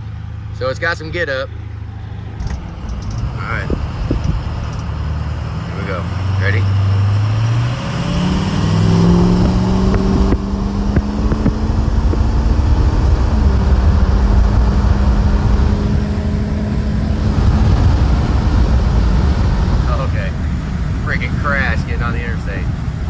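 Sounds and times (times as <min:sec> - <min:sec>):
diesel engine accelerating: 0:00.0 - 0:23.0
road noise: 0:00.0 - 0:23.0.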